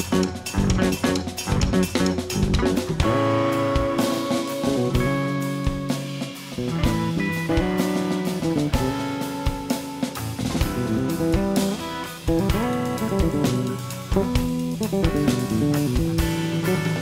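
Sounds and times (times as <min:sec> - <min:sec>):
drum kit with cymbals: 0:00.0 - 0:17.0
electric bass: 0:00.0 - 0:17.0
electric guitar lines: 0:00.0 - 0:17.0.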